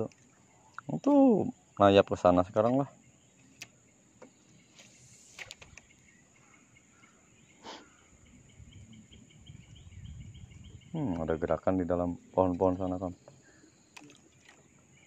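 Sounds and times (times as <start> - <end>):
insect chirping ticks: 0.0 - 15.0
high insect drone: 0.2 - 15.0.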